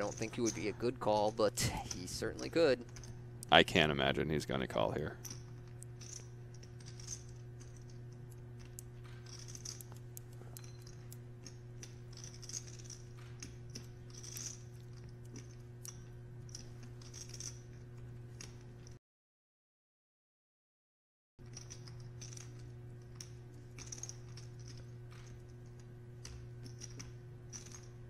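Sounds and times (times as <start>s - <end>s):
steady low hum: 0.0s - 19.0s, 21.4s - 28.0s.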